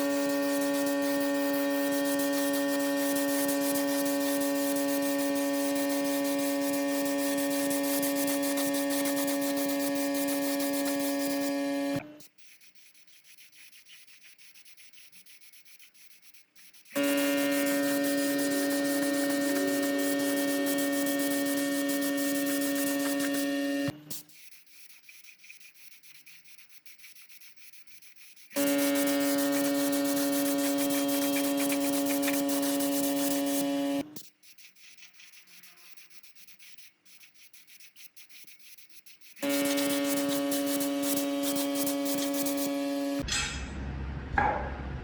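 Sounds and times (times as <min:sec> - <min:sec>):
power tool grinding: 0:00.0 - 0:13.2, 0:16.6 - 0:24.3, 0:28.1 - 0:43.3
rubbing and handling noises: 0:00.0 - 0:43.2.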